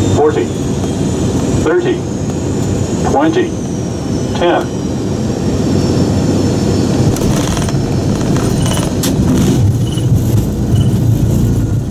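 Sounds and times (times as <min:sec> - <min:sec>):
jet engines and airflow roaring: 0:00.0 - 0:11.9.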